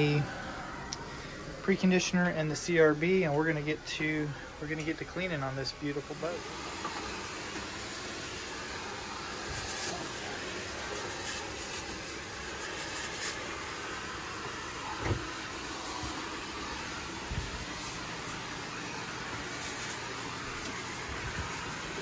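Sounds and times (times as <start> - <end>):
vacuum hose rushing hiss: 0.0 - 22.0.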